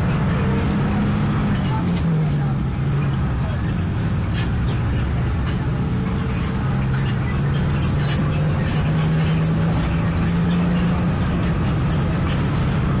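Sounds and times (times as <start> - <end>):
bus engine hum: 0.0 - 13.0.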